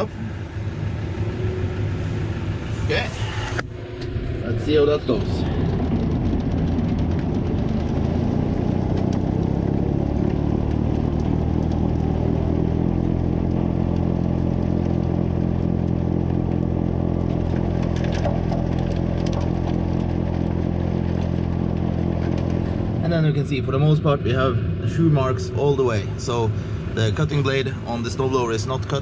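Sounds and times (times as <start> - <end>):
tractor engine with snowblower: 0.0 - 29.0.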